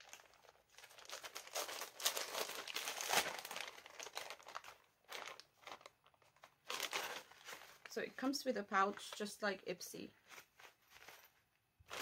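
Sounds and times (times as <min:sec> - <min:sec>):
plastic bag crinkling: 0:00.0 - 0:08.4, 0:10.2 - 0:12.0.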